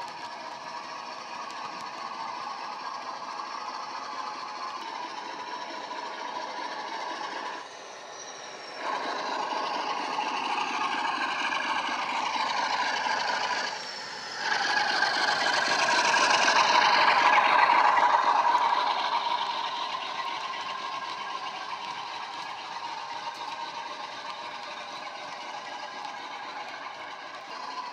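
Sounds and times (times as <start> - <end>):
model train diesel engine sound: 0.0 - 27.9.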